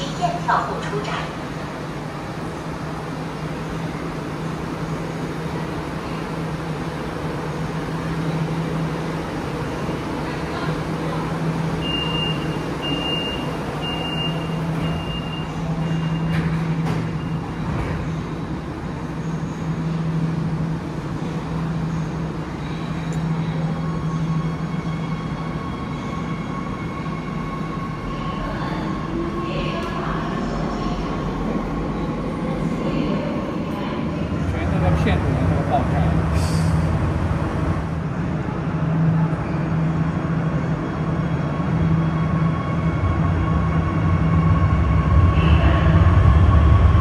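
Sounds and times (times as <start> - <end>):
train hum and rumble: 0.0 - 47.0.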